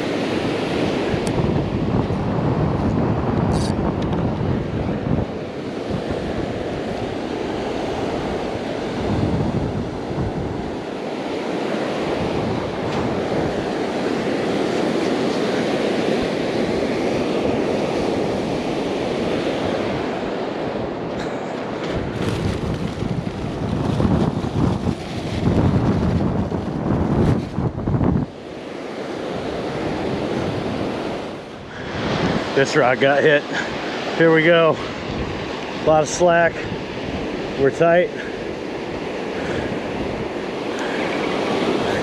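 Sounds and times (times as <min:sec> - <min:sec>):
ocean surf breaking on a beach: 0:00.0 - 0:42.0
wind buffeting the microphone: 0:00.0 - 0:42.0.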